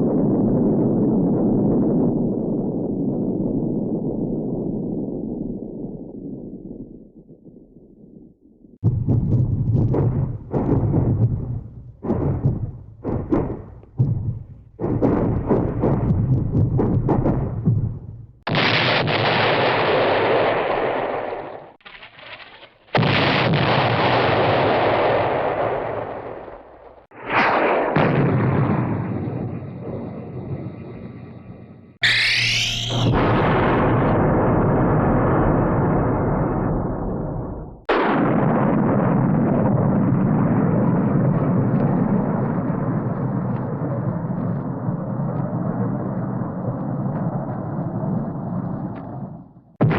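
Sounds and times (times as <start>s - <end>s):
cartoon explosion with rumble: 0.0s - 6.9s, 8.8s - 30.7s, 32.0s - 49.9s.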